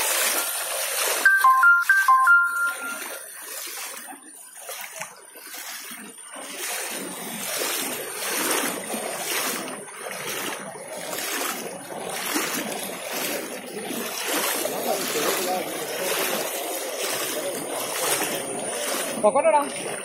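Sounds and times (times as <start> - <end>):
wading through water: 0.0 - 20.0.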